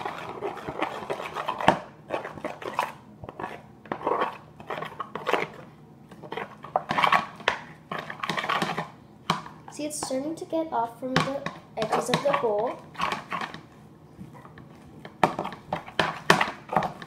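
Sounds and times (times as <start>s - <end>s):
spoon scraping plastic bowl: 0.0s - 10.3s, 11.2s - 17.0s.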